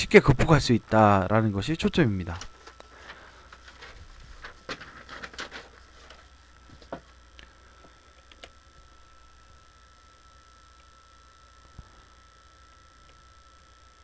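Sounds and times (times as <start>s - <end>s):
faint hum with high tone: 0.0s - 14.0s.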